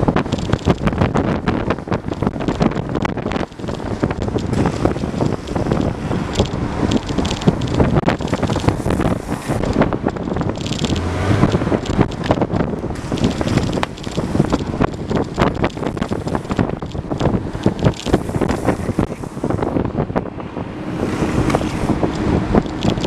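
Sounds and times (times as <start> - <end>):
longboard wheels rolling on asphalt: 0.0 - 23.0
wind rushing over microphone: 0.0 - 23.0.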